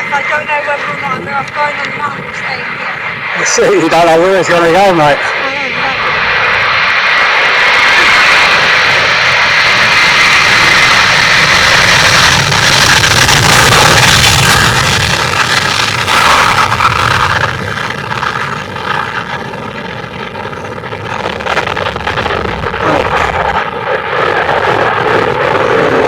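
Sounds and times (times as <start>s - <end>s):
jet engines roaring at takeoff: 0.0s - 26.0s.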